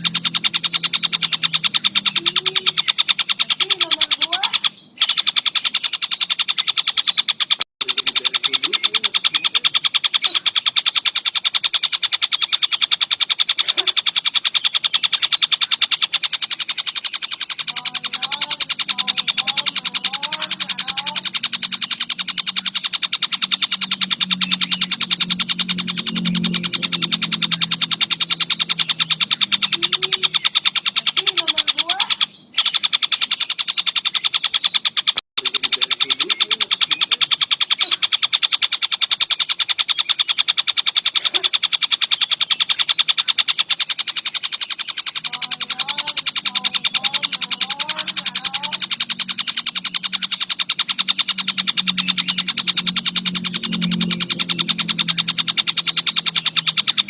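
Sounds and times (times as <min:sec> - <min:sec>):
kingfisher calling: 0:00.0 - 0:57.0.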